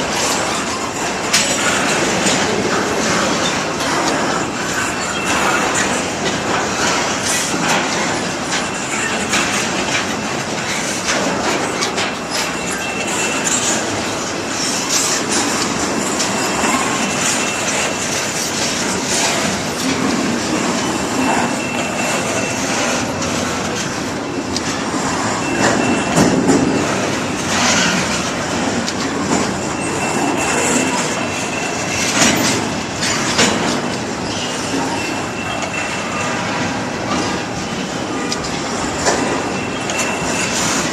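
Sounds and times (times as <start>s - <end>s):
train wheels rumbling on rails: 0.0s - 40.9s
high wheel squeal: 0.2s - 23.9s, 24.7s - 40.9s.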